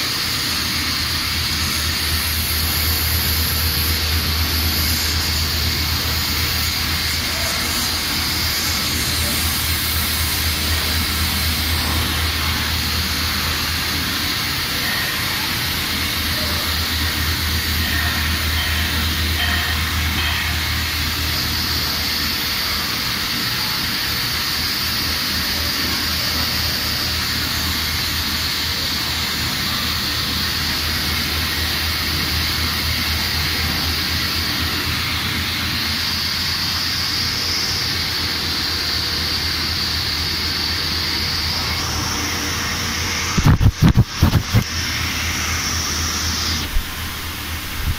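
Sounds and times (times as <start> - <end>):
machine humming and hissing: 0.0 - 47.9.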